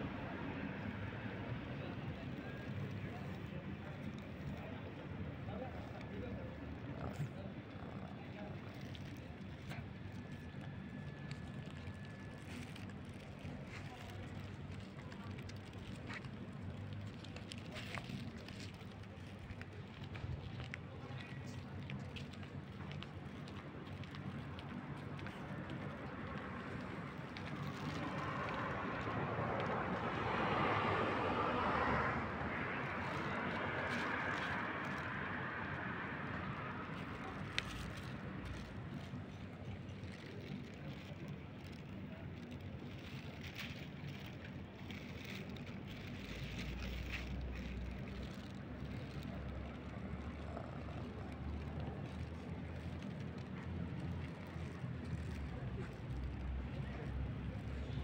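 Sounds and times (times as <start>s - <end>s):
low outdoor background rumble: 0.0s - 58.0s.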